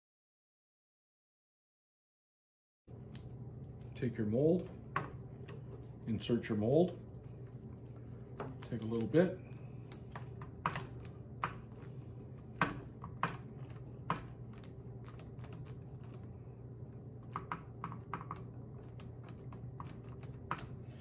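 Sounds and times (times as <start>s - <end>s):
low hum: 2.9s - 21.0s.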